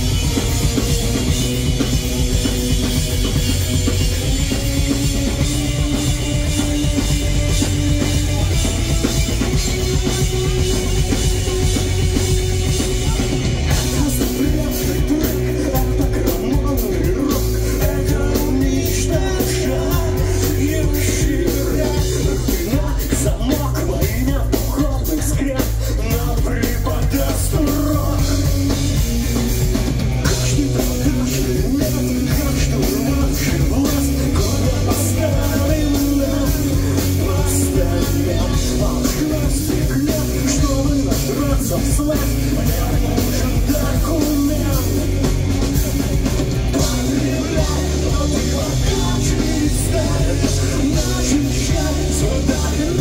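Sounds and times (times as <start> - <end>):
live rock band playing: 0.0 - 53.0
person singing: 5.2 - 29.0, 30.3 - 53.0.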